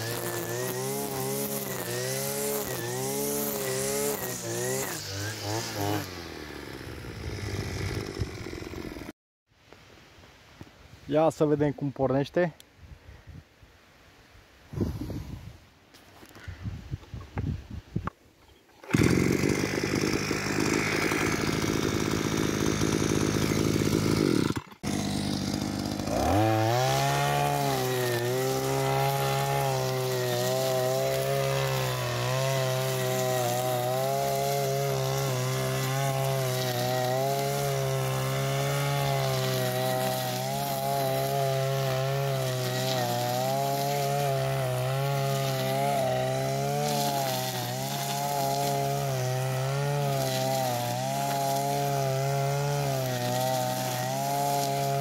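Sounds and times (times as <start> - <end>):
brush cutter engine revving: 0.0 - 9.2, 18.8 - 55.0.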